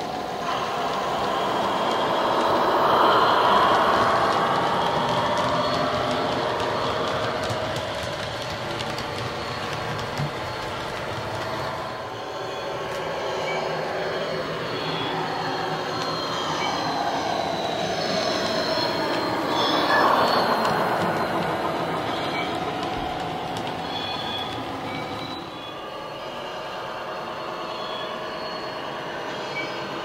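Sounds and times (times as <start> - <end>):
model locomotive diesel engine sound: 0.0 - 30.0.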